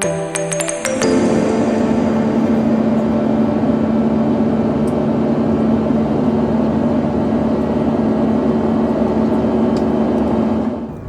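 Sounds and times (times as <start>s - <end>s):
jet engines roaring from cabin: 1.1s - 11.0s
steady low hum: 1.1s - 11.0s.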